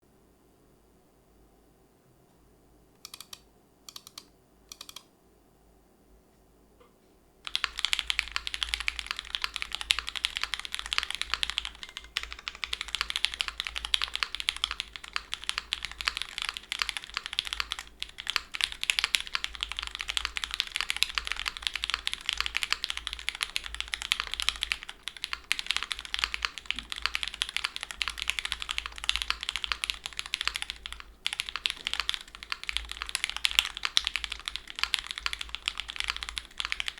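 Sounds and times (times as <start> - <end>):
typing on mechanical keyboard: 3.0 - 5.1, 7.4 - 36.9.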